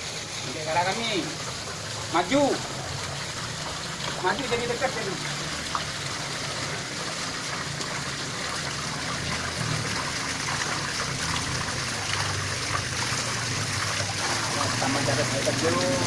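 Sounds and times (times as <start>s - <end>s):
waterfall splashing: 0.0s - 16.0s.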